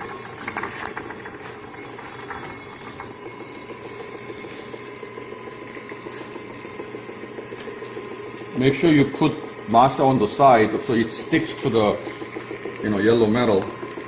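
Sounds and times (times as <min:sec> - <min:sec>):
tortilla machine humming: 0:00.0 - 0:14.0.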